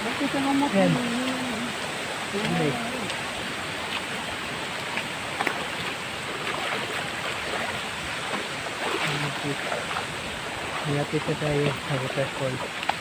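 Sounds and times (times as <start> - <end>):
flowing stream water: 0.0 - 13.0.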